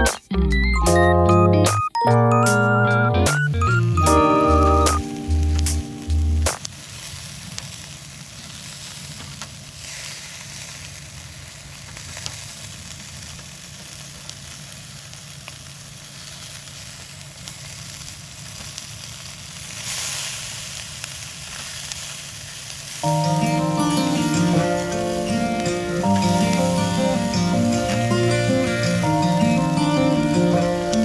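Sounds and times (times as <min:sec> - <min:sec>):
food sizzling in a pan: 0:04.4 - 0:31.0.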